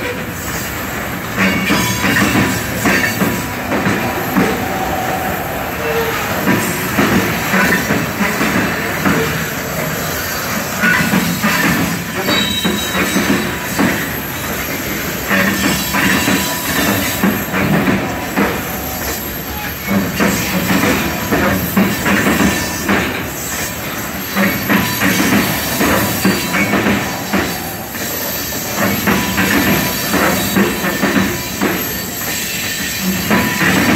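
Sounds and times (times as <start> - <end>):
freight train wheels clacking: 0.0 - 33.9.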